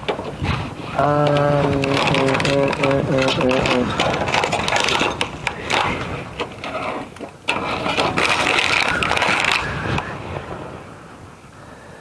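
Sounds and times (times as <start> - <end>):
hard objects clattering and rattling: 0.0 - 10.1.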